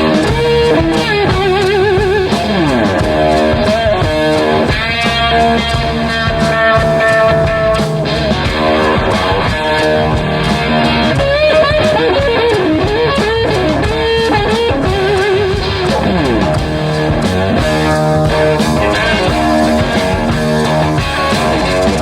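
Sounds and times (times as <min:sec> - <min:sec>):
lead guitar bending: 0:00.0 - 0:22.0
rock band playing: 0:00.0 - 0:22.0.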